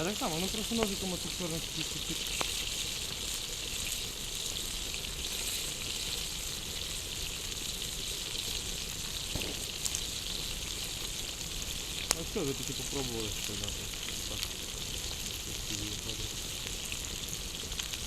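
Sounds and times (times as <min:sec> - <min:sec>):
food sizzling over campfire: 0:00.0 - 0:18.0
sharp fire crackle: 0:00.0 - 0:18.0.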